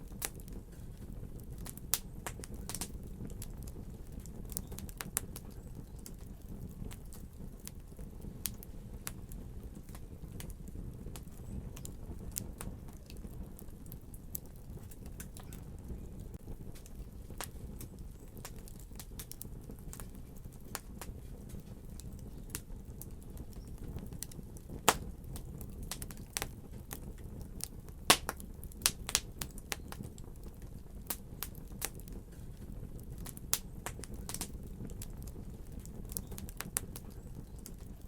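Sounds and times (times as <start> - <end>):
fire crackling: 0.0 - 38.0.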